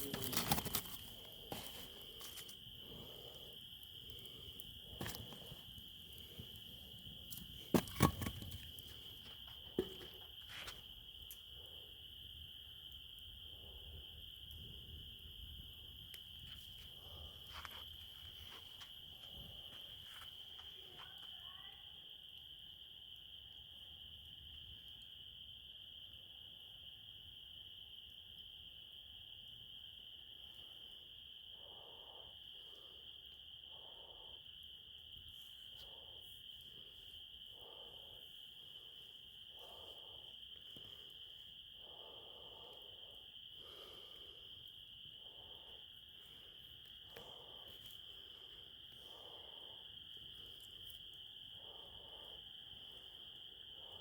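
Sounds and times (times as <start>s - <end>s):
crickets trilling: 0.0s - 54.0s
high-pitched insect chorus: 0.0s - 54.0s.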